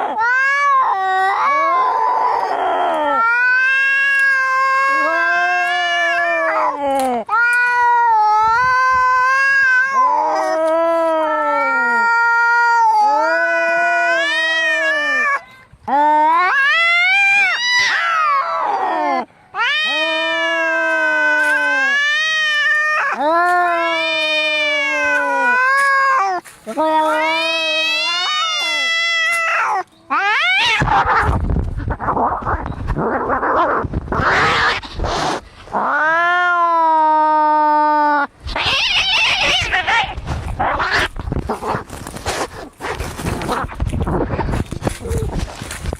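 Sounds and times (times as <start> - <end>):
cat yowling: 0.0 - 15.4, 16.2 - 41.8
cats hissing and screeching: 0.0 - 45.9.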